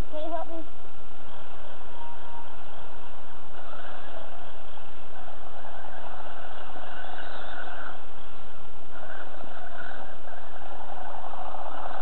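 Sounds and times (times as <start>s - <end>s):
electric motor and gears whining: 1.1s - 12.0s.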